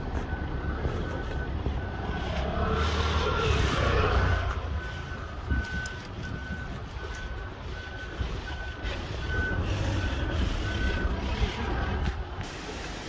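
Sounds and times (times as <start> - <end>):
street traffic rumble: 0.0 - 13.0
vehicle reversing alarm beeping: 0.0 - 13.0.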